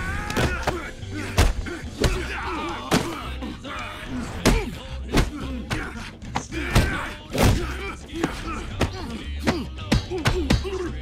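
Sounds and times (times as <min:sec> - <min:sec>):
grunts of effort: 0:00.0 - 0:11.0.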